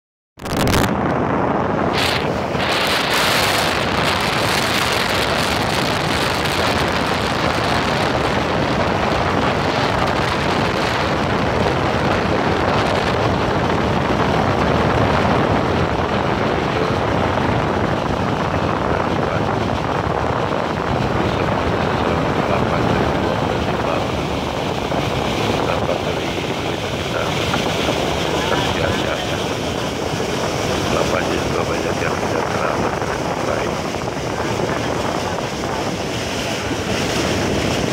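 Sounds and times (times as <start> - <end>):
rushing water: 0.4 - 37.9
speedboat engine drone: 0.4 - 37.9
wind buffeting microphone: 0.4 - 37.9.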